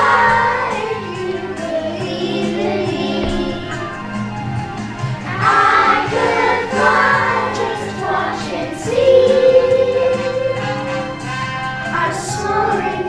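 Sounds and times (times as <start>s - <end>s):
children singing together: 0.0s - 13.0s
musical accompaniment: 0.0s - 13.0s.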